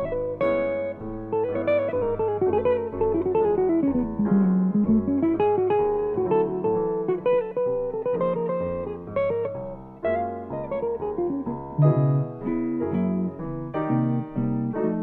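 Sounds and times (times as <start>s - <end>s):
grand piano accompaniment: 0.0s - 15.0s
jazz guitar solo: 0.0s - 15.0s.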